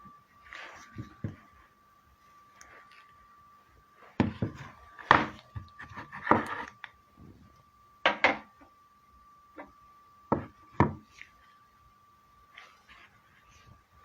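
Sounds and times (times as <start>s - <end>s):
faint high-pitched tone: 0.0s - 14.0s.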